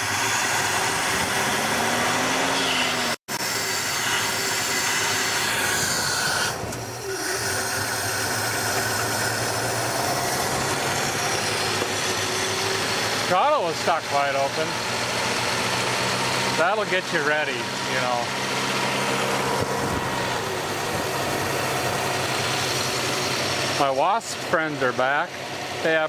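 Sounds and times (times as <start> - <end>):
car engine running at full throttle: 0.0 - 3.5, 6.6 - 26.0.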